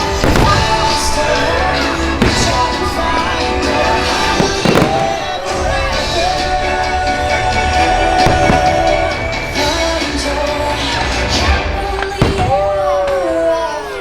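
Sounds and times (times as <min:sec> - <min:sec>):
fireworks booming: 0:00.0 - 0:13.9
loud music: 0:00.0 - 0:14.0.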